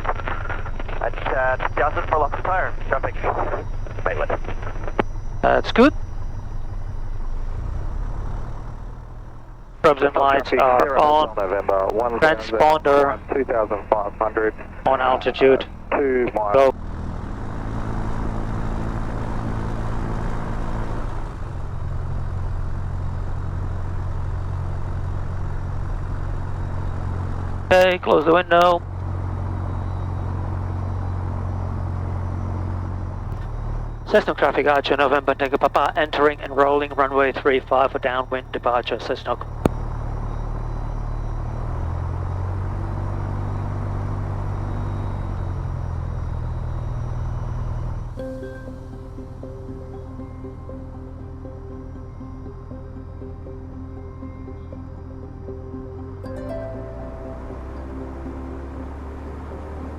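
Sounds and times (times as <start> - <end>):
light aircraft engine running: 0.0 - 59.9.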